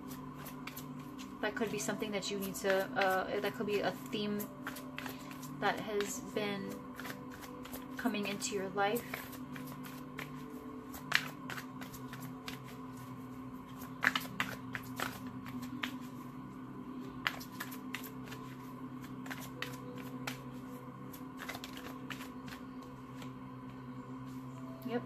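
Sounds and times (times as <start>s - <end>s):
cards being shuffled: 0.0s - 1.8s, 2.4s - 16.3s, 17.0s - 23.4s.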